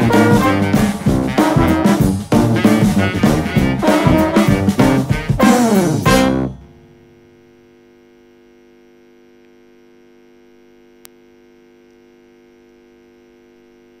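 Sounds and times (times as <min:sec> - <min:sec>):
neon sign electrical hum: 0:00.0 - 0:14.0.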